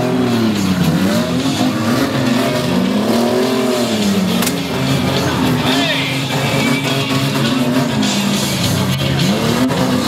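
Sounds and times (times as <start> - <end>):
car engines revving hard: 0.0 - 10.0.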